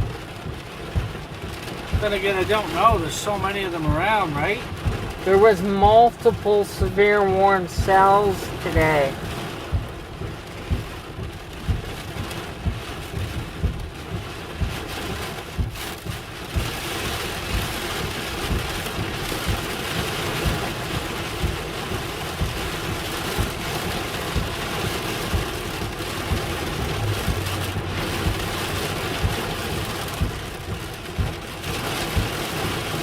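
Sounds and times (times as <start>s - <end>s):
low thumps of heavy drops: 0.0s - 32.8s
heavy rain on vehicle roof: 0.0s - 33.0s.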